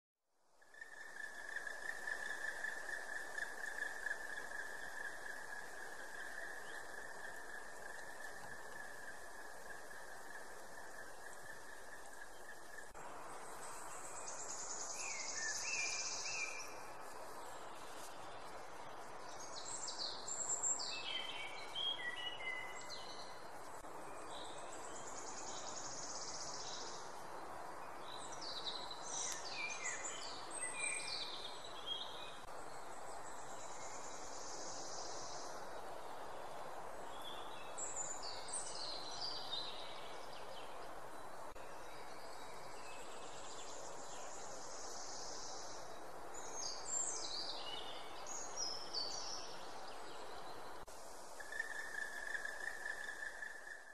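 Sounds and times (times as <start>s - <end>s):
outdoor background hiss: 0.3s - 53.9s
songbirds singing: 0.6s - 53.9s.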